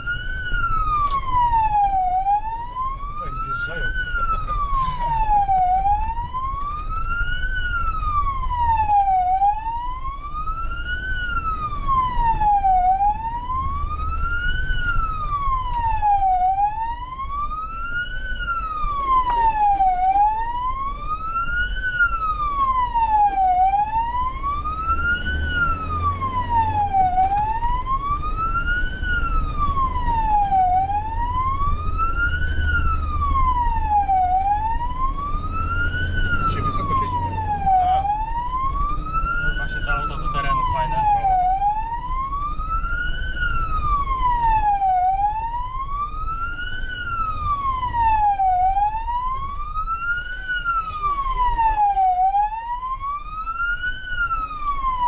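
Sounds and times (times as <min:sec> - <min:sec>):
siren wailing: 0:00.0 - 0:55.0
vehicle driving on dirt road: 0:00.0 - 0:55.0.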